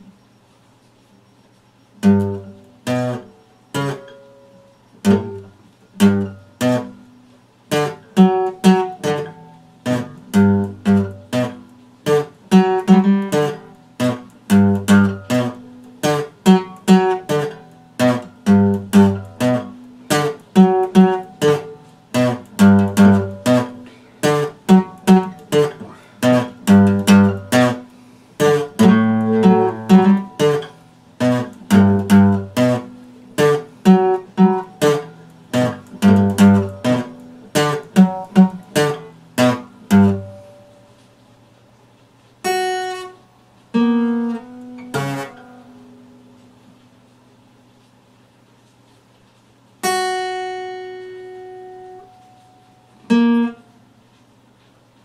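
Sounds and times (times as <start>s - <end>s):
acoustic guitar chords: 1.9s - 47.9s, 49.8s - 54.6s.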